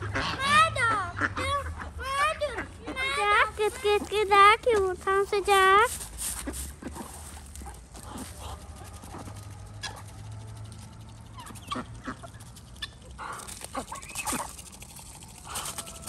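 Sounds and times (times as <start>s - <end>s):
beaks pecking grain: 0.0s - 16.0s
chickens clucking: 0.0s - 16.0s.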